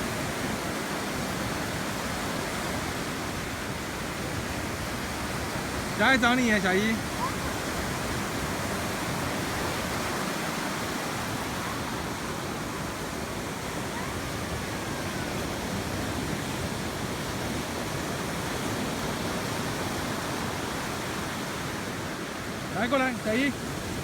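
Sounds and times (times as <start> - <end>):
surf washing on beach: 0.0 - 24.0.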